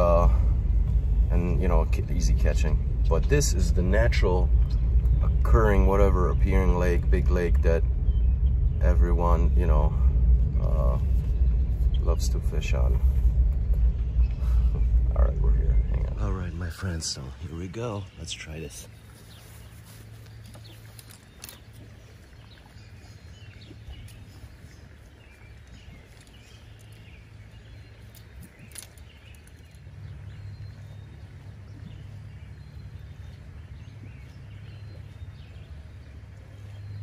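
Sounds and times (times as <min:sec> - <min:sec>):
birds chirping: 0:00.0 - 0:37.0
steady low hum: 0:00.0 - 0:37.0.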